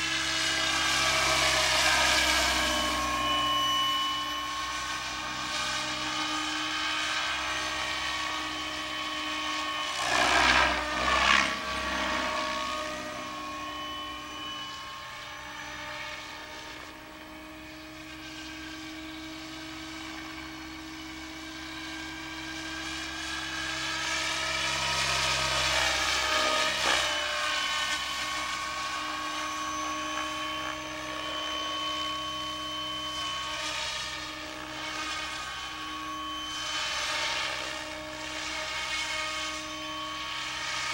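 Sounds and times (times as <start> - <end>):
helicopter motor whine: 0.0 - 40.9.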